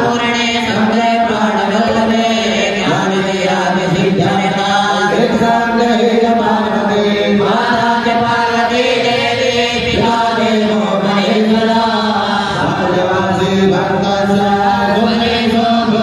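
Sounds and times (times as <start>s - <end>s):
voices chanting devotional melody: 0.0s - 16.0s.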